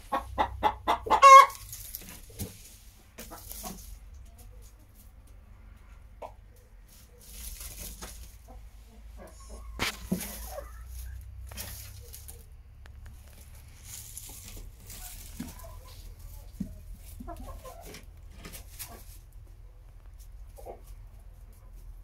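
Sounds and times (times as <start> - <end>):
straw rustling: 0.0 - 5.8, 6.6 - 22.0
hens clucking quietly: 0.0 - 22.0.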